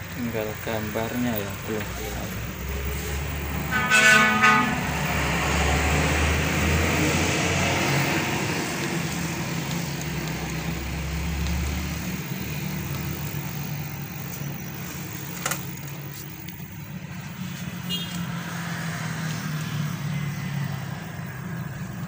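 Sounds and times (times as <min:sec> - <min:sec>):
steady traffic noise: 0:00.0 - 0:22.0
vehicle engine rumble: 0:00.0 - 0:22.0.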